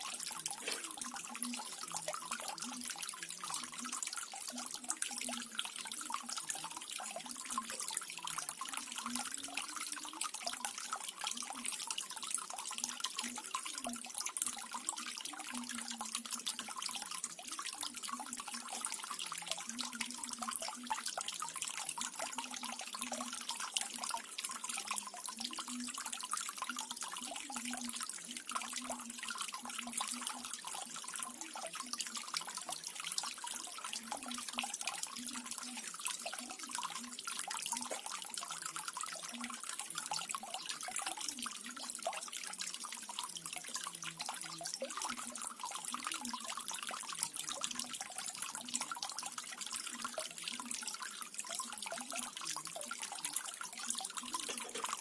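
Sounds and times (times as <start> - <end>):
low water gurgle: 0.0 - 55.0
water drips: 0.0 - 55.0
water trickling and splashing: 0.0 - 55.0.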